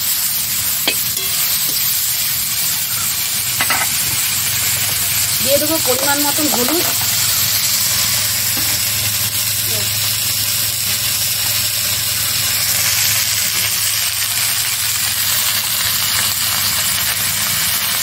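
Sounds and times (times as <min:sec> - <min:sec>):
greens sizzling in hot oil: 0:00.0 - 0:18.0.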